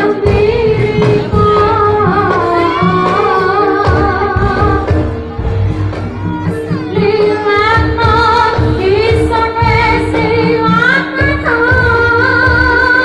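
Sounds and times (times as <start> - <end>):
woman singing ornamented melody: 0.0 - 5.1, 6.6 - 13.0
drum beats: 0.0 - 13.0
steady musical accompaniment: 0.0 - 13.0.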